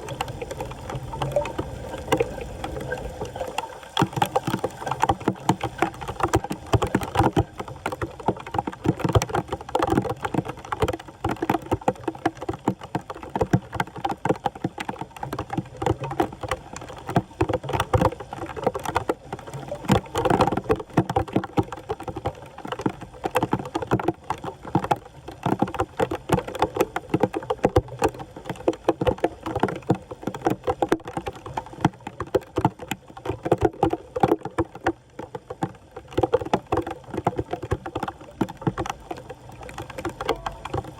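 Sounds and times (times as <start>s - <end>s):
floodwater splashing: 0.0s - 40.9s.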